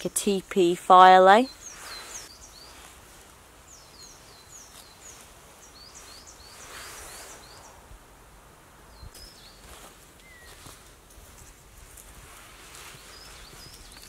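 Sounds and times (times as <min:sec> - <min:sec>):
rustle of sticks and soil: 0:01.3 - 0:08.0, 0:09.0 - 0:14.0.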